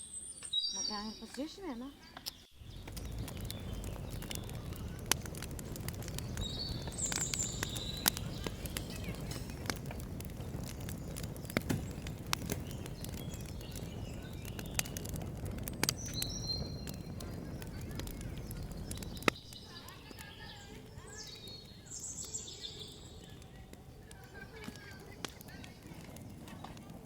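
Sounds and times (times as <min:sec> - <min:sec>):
steady outdoor noise: 0:01.3 - 0:27.0
sharp ticks and pops: 0:02.2 - 0:27.0.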